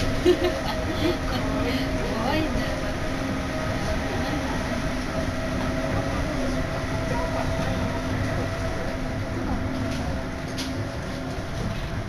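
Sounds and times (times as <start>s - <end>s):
monorail running noise with hum: 0.0s - 12.0s.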